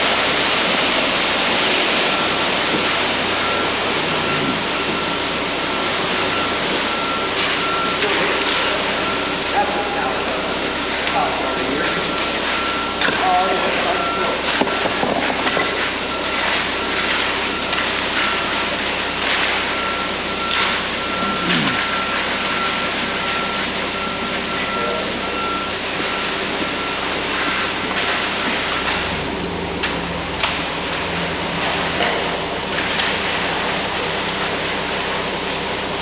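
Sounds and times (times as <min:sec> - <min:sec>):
reversing alarm beeping: 0:00.0 - 0:36.0
truck diesel engine running: 0:00.0 - 0:36.0.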